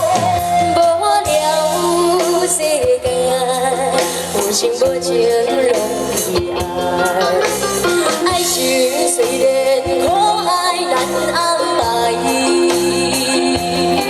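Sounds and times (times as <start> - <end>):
live band playing pop song: 0.0 - 14.0
woman singing: 0.0 - 14.0.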